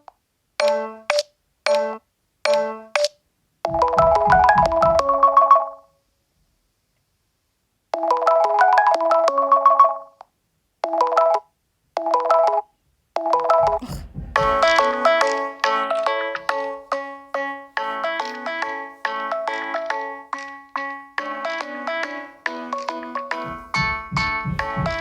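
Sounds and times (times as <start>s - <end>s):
phone ringtone melody: 0.6s - 3.1s, 3.7s - 5.9s, 8.0s - 10.2s, 10.8s - 13.8s, 14.4s - 25.0s.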